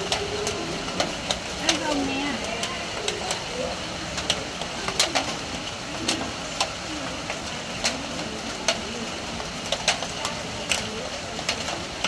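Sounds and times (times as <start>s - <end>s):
rain on a metal roof: 0.0s - 12.0s.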